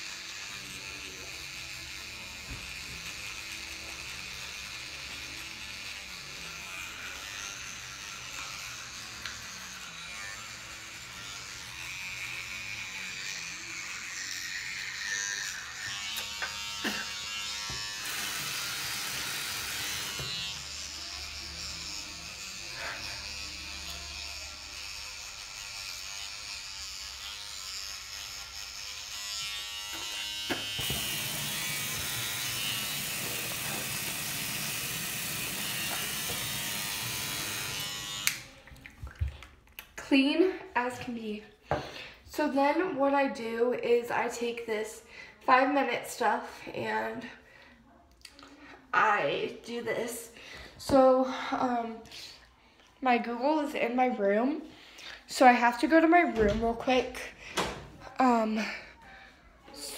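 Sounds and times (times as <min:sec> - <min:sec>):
electric toothbrush buzzing: 0:00.0 - 0:38.8, 0:48.7 - 0:59.0, 0:59.6 - 0:59.9.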